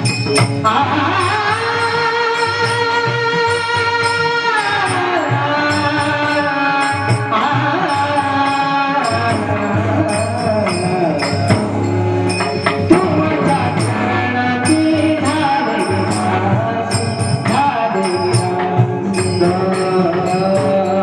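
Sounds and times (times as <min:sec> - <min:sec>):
hand cymbals jingling: 0:00.0 - 0:00.7, 0:01.4 - 0:21.0
devotional song melody: 0:00.0 - 0:21.0
drum strokes: 0:00.0 - 0:21.0.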